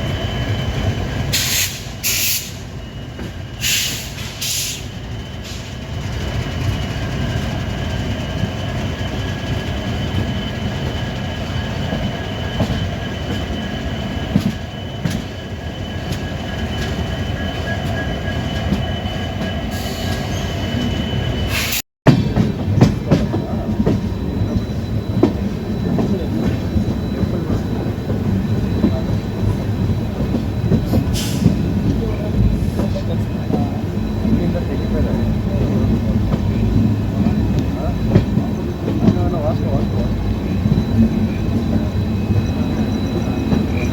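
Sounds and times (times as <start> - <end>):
train rumbling on track: 0.0 - 43.9.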